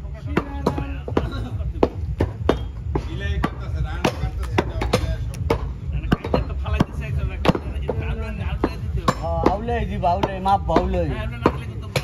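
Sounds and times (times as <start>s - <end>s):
cleavers chopping meat and bone: 0.0s - 12.0s.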